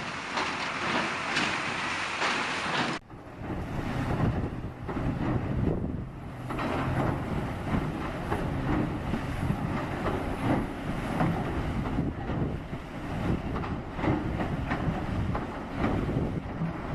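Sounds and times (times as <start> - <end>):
low engine rumble: 0.0 - 16.9
machinery knocks and clatter: 0.0 - 16.9
wind on microphone: 2.7 - 16.9.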